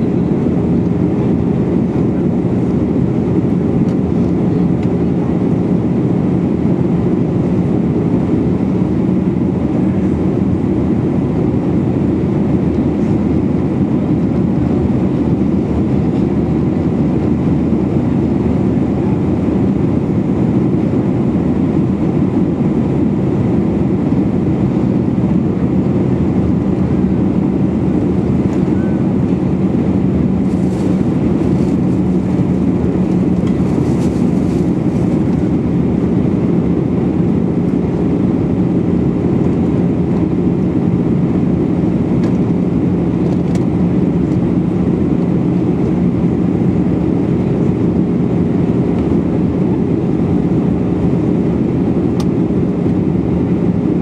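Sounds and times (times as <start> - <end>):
airliner cabin engine rumble: 0.0 - 54.0
rushing airflow: 5.3 - 54.0.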